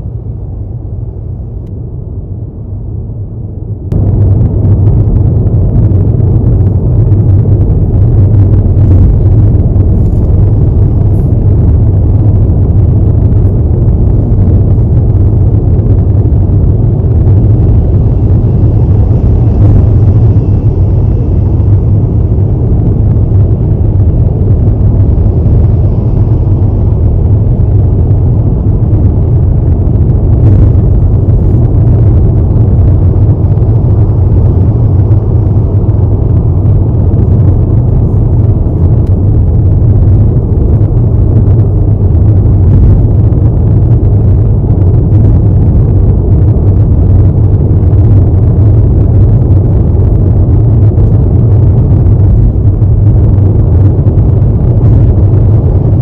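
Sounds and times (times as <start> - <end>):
car driving on highway: 0.0 - 56.0.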